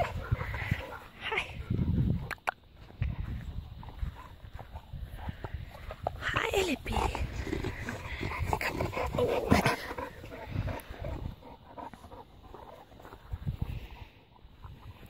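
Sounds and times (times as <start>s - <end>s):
dog panting: 0.0s - 1.9s, 3.9s - 14.9s.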